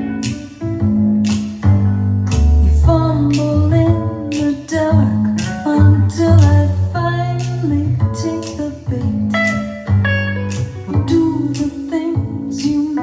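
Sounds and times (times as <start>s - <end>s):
deep bass notes: 0.0s - 12.5s
plucked guitar music: 0.0s - 13.0s.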